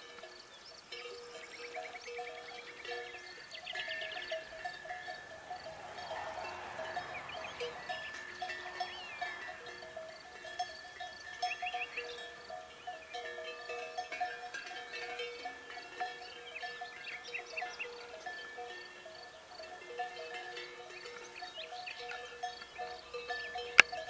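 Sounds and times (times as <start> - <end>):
livestock bells clinking: 0.0 - 24.0
small birds chirping and trilling: 0.4 - 24.0.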